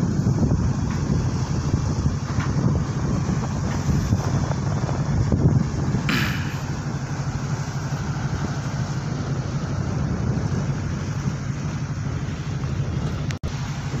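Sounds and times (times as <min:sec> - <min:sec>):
diesel engine rumble: 0:00.0 - 0:14.0
water noise: 0:00.0 - 0:14.0
wind: 0:00.0 - 0:14.0.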